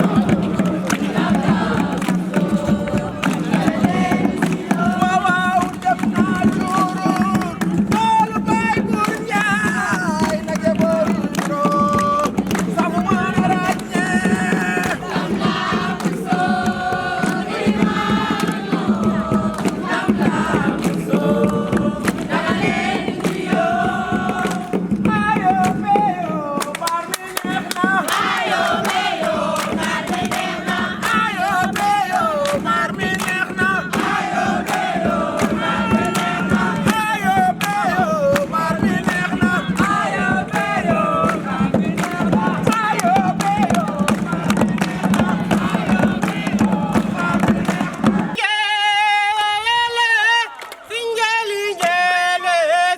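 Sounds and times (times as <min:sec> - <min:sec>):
rapid claps: 0:00.0 - 0:48.4, 0:50.5 - 0:52.1
young voices singing in chorus: 0:00.0 - 0:52.9.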